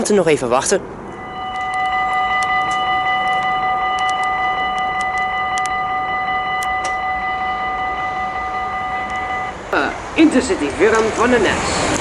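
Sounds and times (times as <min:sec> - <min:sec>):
electric train whine: 0:01.0 - 0:12.0.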